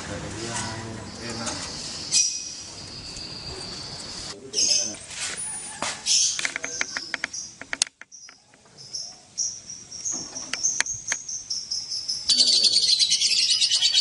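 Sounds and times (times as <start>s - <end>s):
lovebirds chirping: 0.6s - 14.0s.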